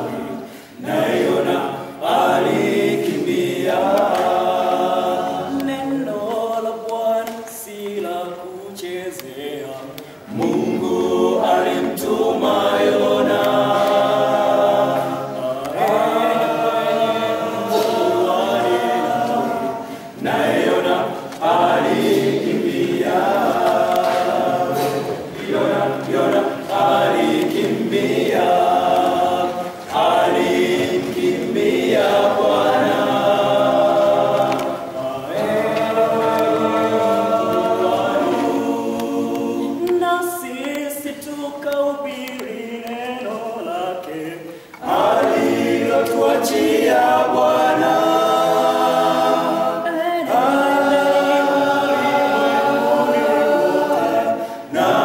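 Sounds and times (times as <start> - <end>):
young men singing a hymn: 0.0 - 55.0.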